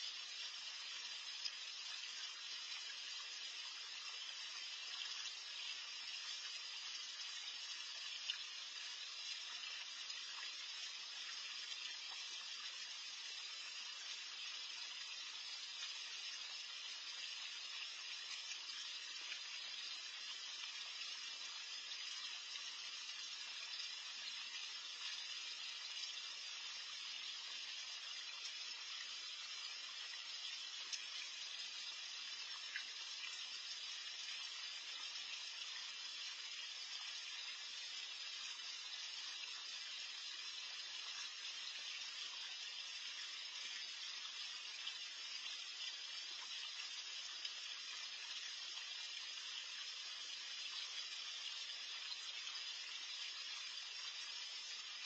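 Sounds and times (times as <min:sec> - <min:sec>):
faint ticks: 0:00.0 - 0:49.2
water splashing and trickling: 0:00.0 - 0:55.0.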